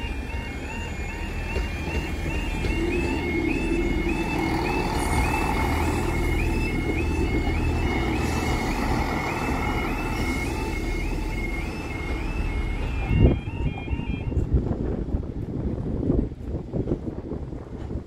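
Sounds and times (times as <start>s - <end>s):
warbling two-tone crossing alarm: 0.0s - 14.7s
diesel train passing: 0.0s - 18.0s.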